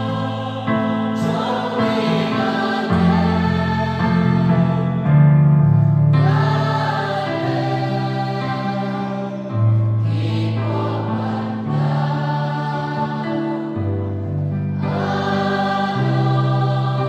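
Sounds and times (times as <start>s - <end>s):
choir singing a hymn: 0.0s - 17.0s.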